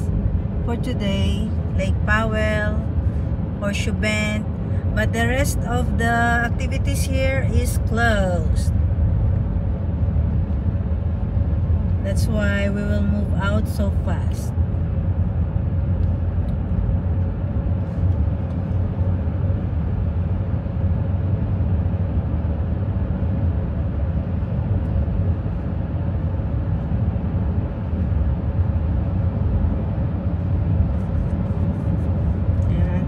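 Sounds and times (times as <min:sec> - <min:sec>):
car road rumble: 0:00.0 - 0:33.0
faint constant hum: 0:00.0 - 0:33.0.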